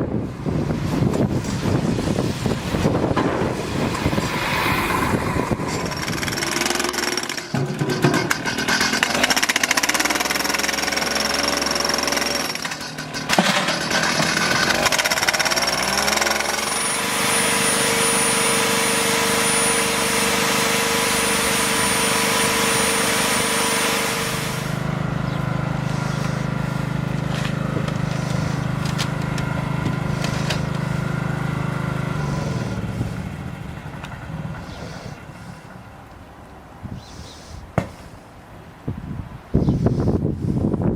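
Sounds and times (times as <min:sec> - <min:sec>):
motor-driven machine running: 0:02.7 - 0:35.7.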